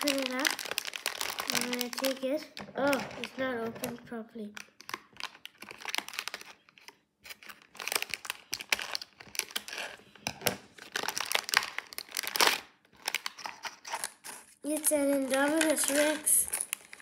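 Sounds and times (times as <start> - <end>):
packaging torn and crinkled: 0.0 - 4.0, 4.6 - 17.0.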